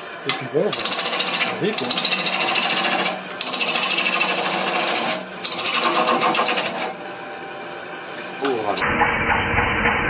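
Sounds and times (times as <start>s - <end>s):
lathe tool scraping wood: 0.0s - 8.8s
wood lathe running: 0.0s - 8.8s.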